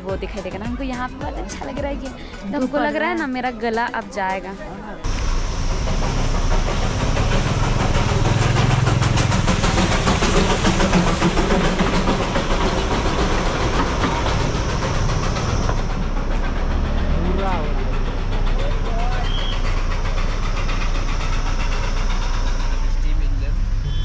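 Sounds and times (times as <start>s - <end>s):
train wheels clattering on track: 0.0s - 2.2s, 5.0s - 24.0s.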